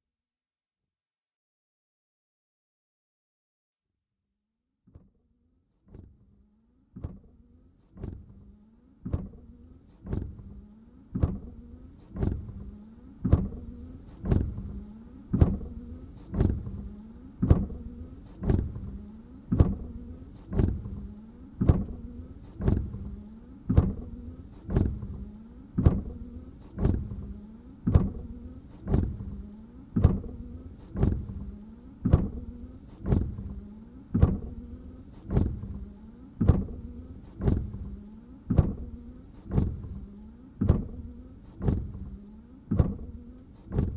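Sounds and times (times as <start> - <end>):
windshield wipers sweeping: 5.8 - 43.9
wiper motor hum: 5.8 - 43.9.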